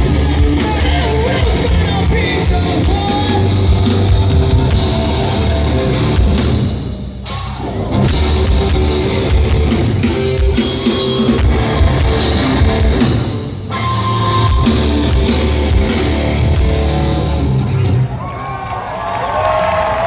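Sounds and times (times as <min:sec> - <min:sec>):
heavy rock band playing: 0:00.0 - 0:18.2.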